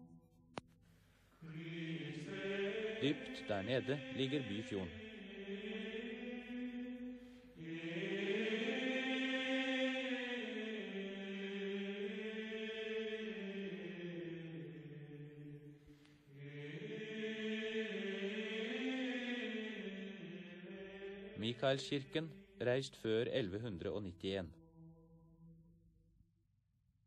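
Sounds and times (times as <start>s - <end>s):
slow chanting in low voices: 1.4s - 24.6s.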